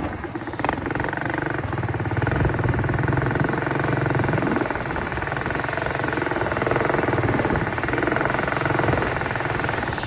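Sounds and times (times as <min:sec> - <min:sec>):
machinery engine rattling: 0:00.0 - 0:10.0.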